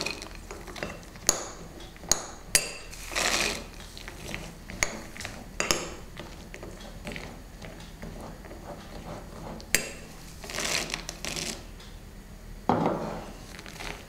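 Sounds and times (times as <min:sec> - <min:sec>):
wet stirring of batter: 0:00.0 - 0:11.7.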